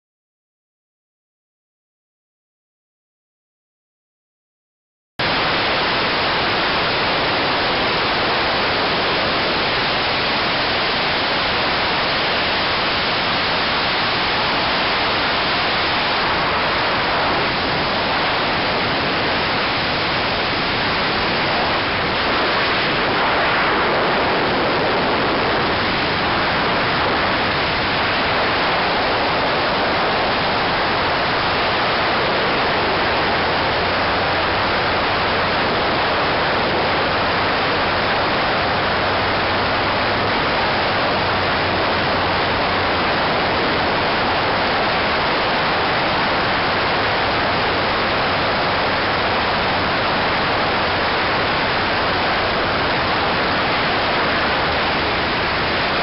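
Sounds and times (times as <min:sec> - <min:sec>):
airstream rushing: 0:05.2 - 0:56.0.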